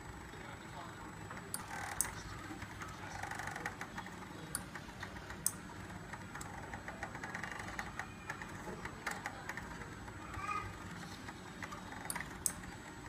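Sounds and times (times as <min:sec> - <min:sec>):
faint steady hum: 0:00.0 - 0:13.0
laser cutter motors clicking: 0:00.8 - 0:13.0.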